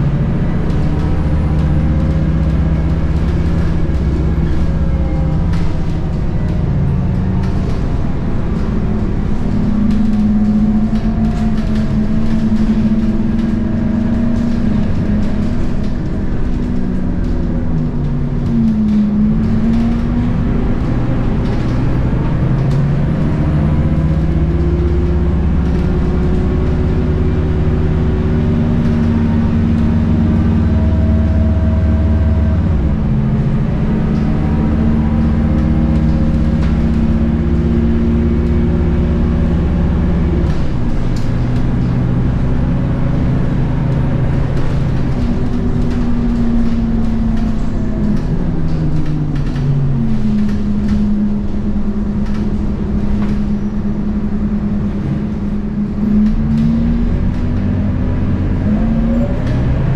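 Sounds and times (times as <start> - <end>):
bus diesel engine driving: 0.0 - 59.9.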